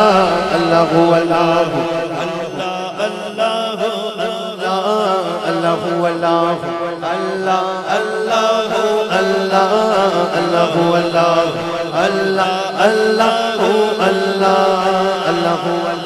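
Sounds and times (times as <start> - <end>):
drone of chanting voices: 0.0 - 16.0
man singing melismatic melody: 0.0 - 16.0.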